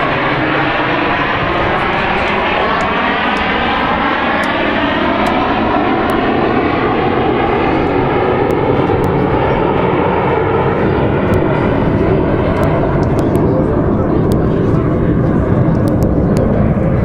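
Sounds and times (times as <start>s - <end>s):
jet flying past roaring: 0.0s - 17.0s.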